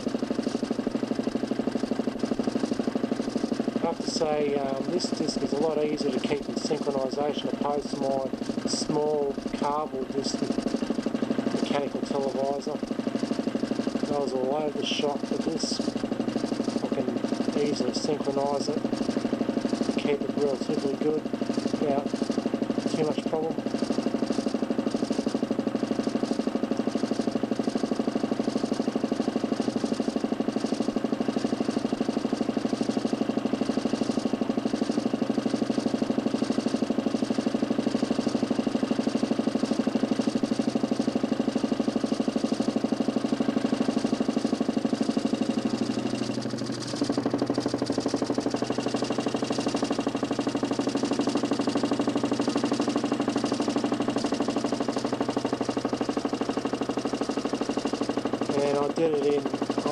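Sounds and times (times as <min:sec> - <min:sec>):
motor spinning disc whirring: 0:00.0 - 0:59.9.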